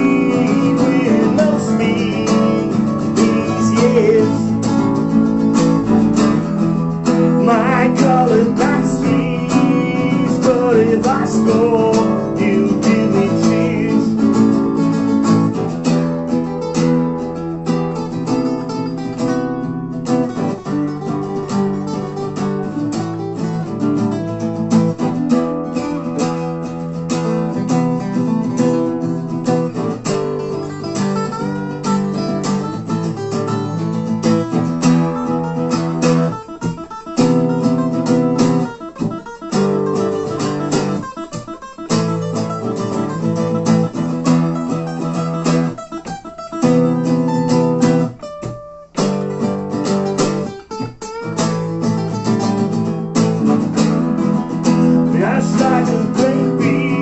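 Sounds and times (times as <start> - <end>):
acoustic guitars playing rock: 0.0 - 57.0.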